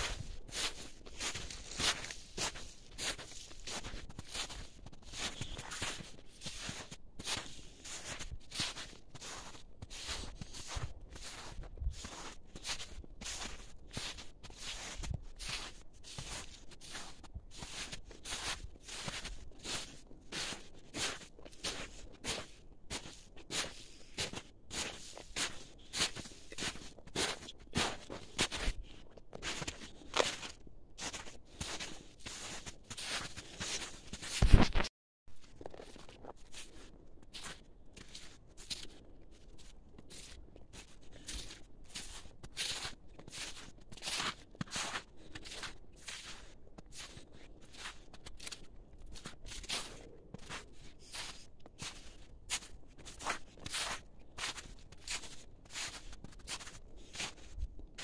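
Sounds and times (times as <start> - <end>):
footsteps crunching in snow: 0.0 - 58.0.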